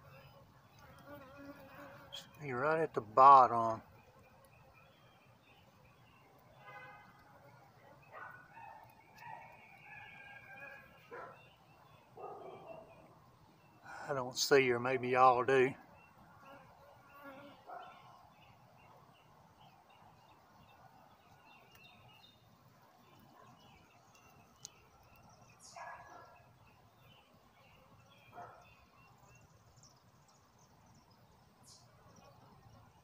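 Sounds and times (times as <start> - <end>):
distant birds chirping: 0.0 - 33.0.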